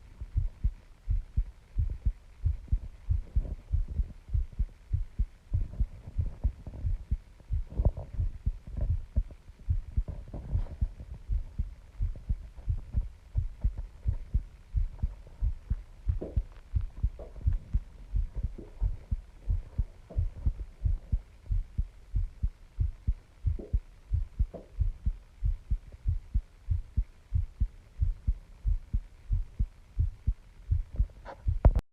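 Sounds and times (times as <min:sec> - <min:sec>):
heartbeat thumps: 0:00.0 - 0:31.8.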